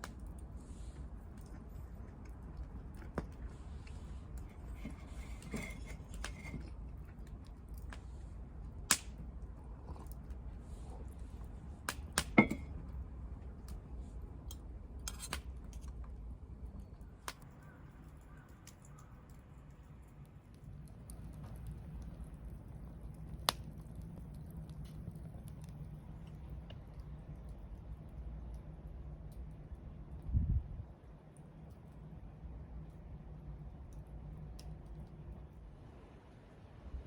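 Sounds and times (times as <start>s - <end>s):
low steady rumble: 0.0s - 37.0s.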